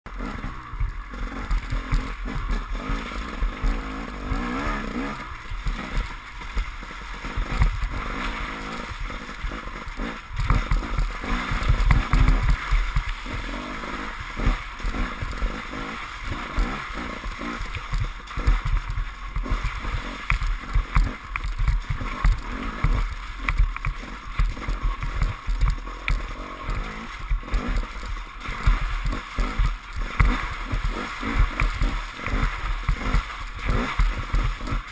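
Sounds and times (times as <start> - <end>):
motorcycle engine revving: 0.1 - 34.9
water and mud splashing: 0.1 - 34.9.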